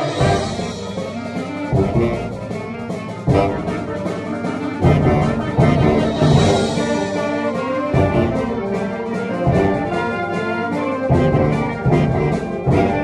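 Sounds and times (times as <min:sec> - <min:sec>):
clarinets playing: 0:00.0 - 0:13.0
concert band accompaniment: 0:00.0 - 0:13.0
percussion strikes: 0:00.0 - 0:13.0.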